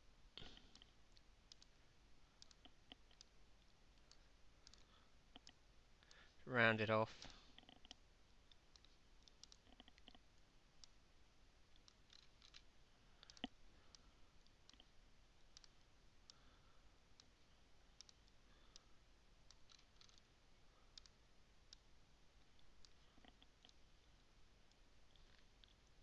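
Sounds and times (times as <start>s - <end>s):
computer mouse clicks: 0.4s - 1.8s, 2.4s - 6.2s, 7.2s - 11.0s, 11.7s - 16.4s, 18.0s - 26.0s.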